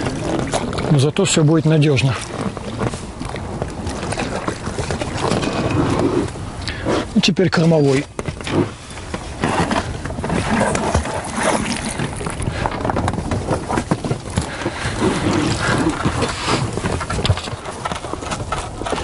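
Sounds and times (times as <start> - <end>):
rubbing and knocks on rubber boat: 0.0 - 6.4, 8.0 - 19.0
water sloshing: 0.0 - 7.2, 7.8 - 19.0.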